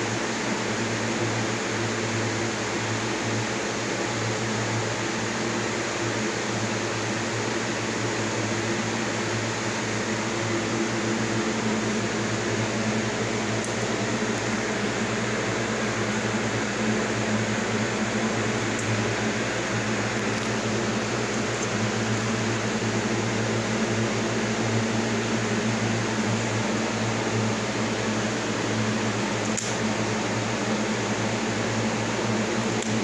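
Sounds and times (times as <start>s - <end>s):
steady low hum with hiss: 0.0s - 33.0s.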